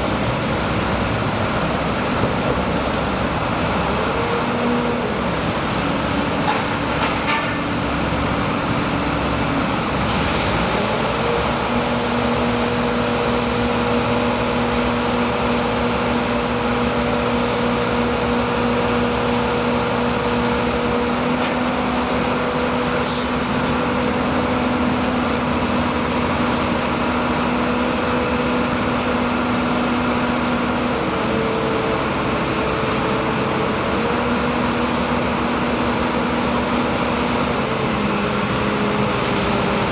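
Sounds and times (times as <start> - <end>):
noisy drone: 0.0 - 39.9.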